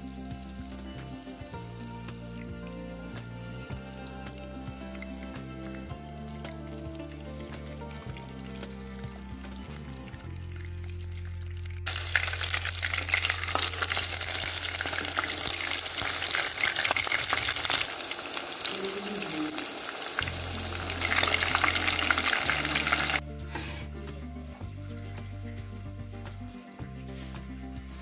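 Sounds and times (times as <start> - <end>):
patty sizzling in hot oil: 0.0 - 23.8
background music: 0.0 - 28.0.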